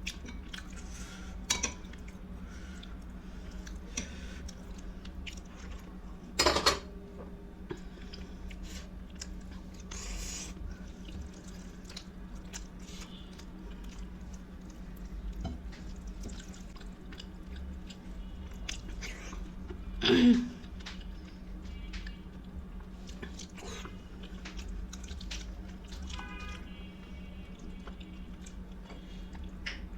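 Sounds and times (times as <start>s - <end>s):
person chewing food: 0.0s - 6.3s, 7.6s - 26.6s, 27.5s - 29.9s
faint steady hum: 0.0s - 29.9s.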